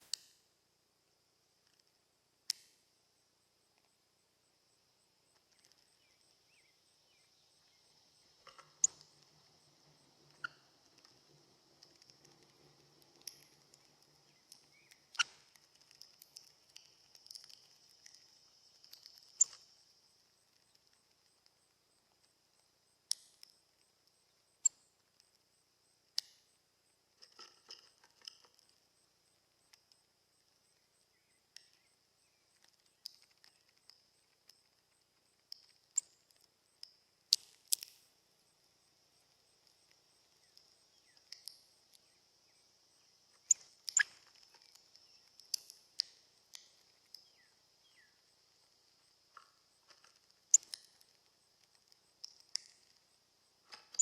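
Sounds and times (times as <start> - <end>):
faint high-pitched hiss: 0.0 - 54.0
small birds clicking and tapping: 1.6 - 2.8, 4.7 - 54.0.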